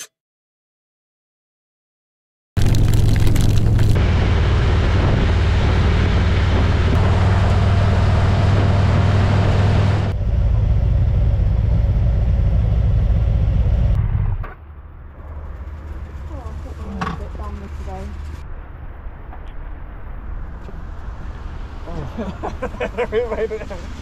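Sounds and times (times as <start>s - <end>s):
wind and road noise: 2.6s - 24.0s.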